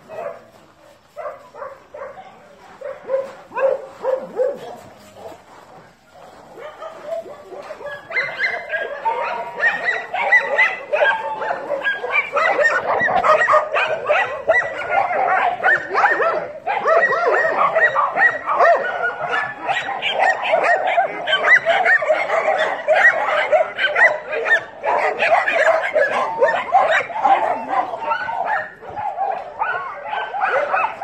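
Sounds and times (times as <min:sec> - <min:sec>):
dogs barking and yipping: 0:00.0 - 0:31.0.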